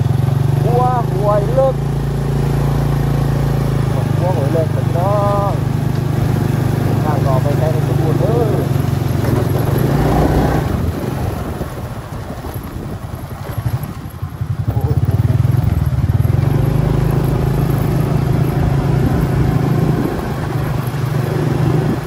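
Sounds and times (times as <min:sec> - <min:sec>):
motorcycle engine riding: 0:00.0 - 0:22.0
rough rushing noise: 0:00.0 - 0:22.0.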